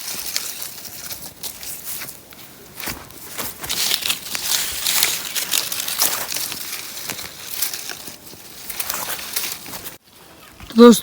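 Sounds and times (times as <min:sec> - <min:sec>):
dry twigs and leaves crunching: 0:00.0 - 0:10.6.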